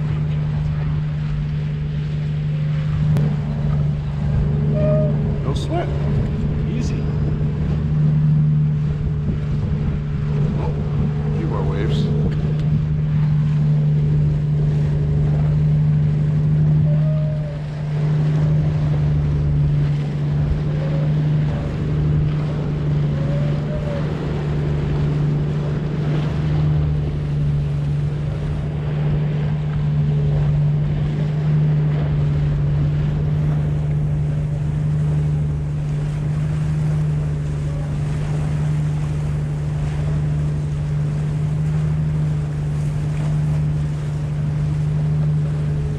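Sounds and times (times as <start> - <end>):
boat engine running: 0.0 - 45.9
water rushing past hull: 0.0 - 45.9
wind on microphone: 0.0 - 45.9.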